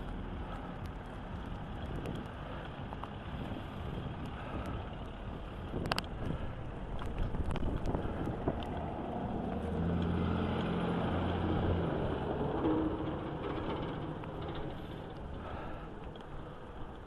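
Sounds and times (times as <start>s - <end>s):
wind noise on microphone: 0.0s - 14.3s
bicycle road rush: 0.0s - 17.0s
motor vehicle engine hum: 0.0s - 17.0s.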